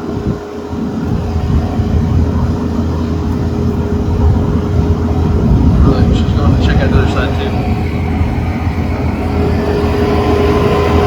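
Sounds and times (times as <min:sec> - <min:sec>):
diesel engine running under load: 0:00.0 - 0:11.0
steady whine: 0:00.0 - 0:11.0.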